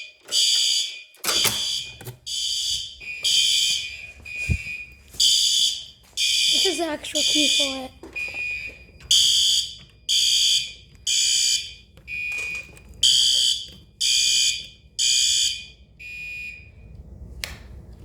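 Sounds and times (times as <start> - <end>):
fire alarm horn blasts: 0.0 - 16.8.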